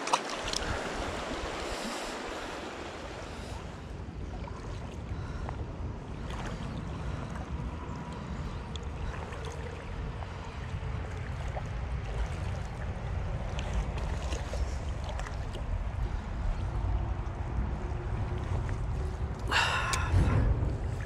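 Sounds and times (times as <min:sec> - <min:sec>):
flowing river water: 0:00.0 - 0:21.0
wind rumbling on microphone: 0:00.0 - 0:21.0.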